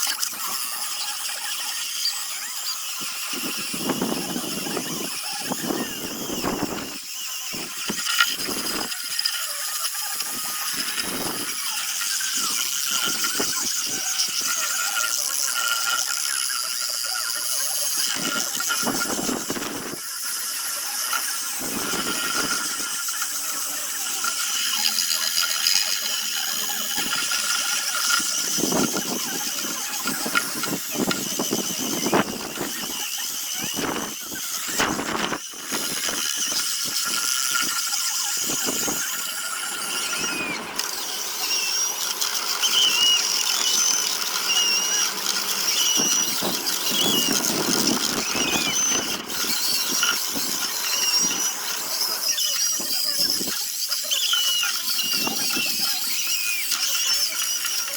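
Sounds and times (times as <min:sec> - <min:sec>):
power sander grinding wood: 0:00.0 - 0:57.9.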